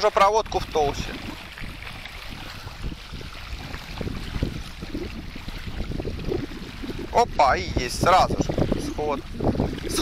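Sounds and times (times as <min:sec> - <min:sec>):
small waves lapping at shore: 0:00.0 - 0:10.0
wind buffeting microphone: 0:00.0 - 0:10.0.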